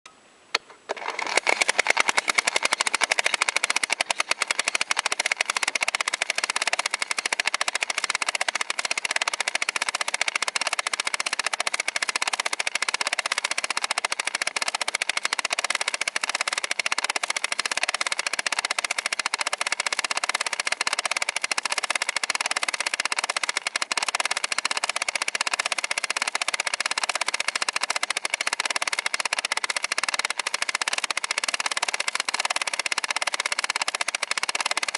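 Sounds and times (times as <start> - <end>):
film viewer mechanism clattering: 0.9 - 34.9.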